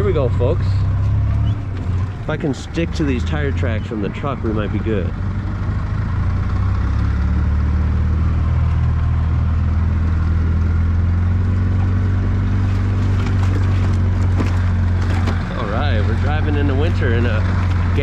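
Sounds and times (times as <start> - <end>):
golf cart engine running: 0.0 - 18.0.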